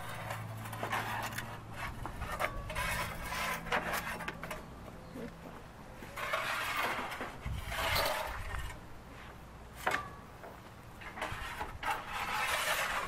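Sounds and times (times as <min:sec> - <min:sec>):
wooden pole scraping oven floor: 0:00.0 - 0:04.7, 0:06.0 - 0:13.0.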